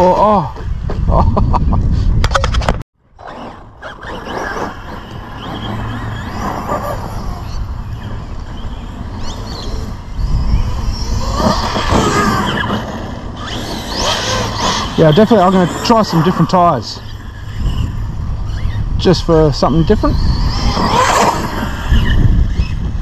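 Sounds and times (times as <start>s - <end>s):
wind on microphone: 0.0s - 23.0s
tyre and chassis noise: 1.9s - 23.0s
electric rc car motor whine: 3.2s - 23.0s.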